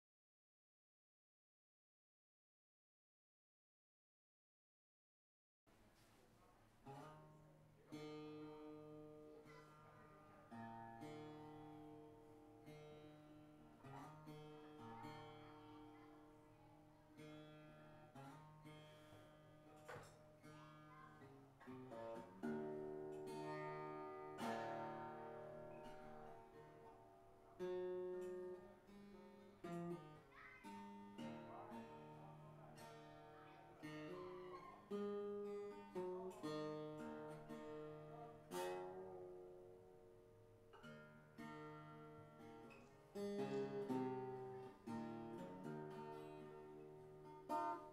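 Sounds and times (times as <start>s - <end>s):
acoustic guitar playing: 6.8s - 47.9s.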